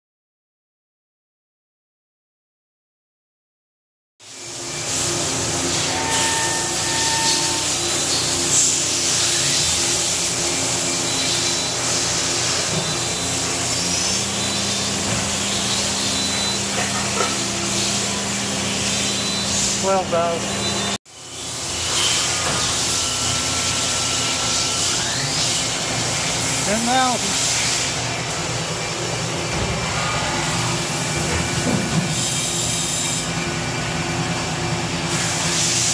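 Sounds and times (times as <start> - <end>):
machine shop machinery hum and hiss: 4.2 - 35.9.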